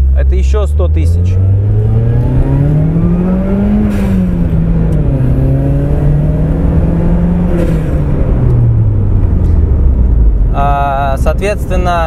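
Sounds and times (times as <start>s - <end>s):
car engine revving inside cabin: 0.0s - 10.5s.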